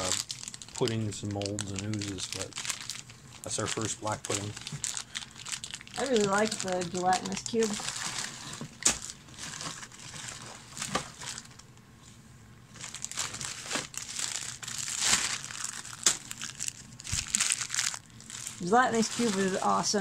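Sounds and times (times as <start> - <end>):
plastic bags crinkling: 0.0 - 11.7, 12.7 - 20.0.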